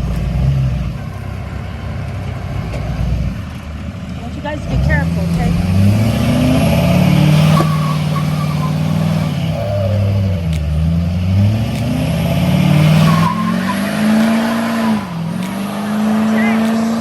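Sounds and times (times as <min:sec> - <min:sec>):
tractor engine revving: 0:00.0 - 0:17.0.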